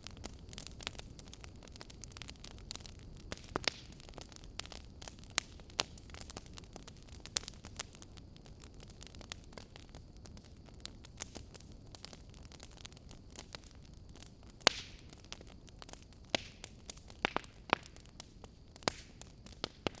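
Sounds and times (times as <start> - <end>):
flames rumbling: 0.0 - 20.0
wood fire crackling and popping: 0.0 - 20.0.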